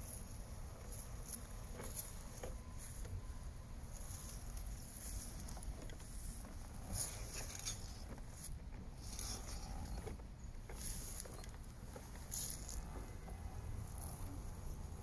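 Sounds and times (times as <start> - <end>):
soft irregular rustling: 0.0 - 15.0.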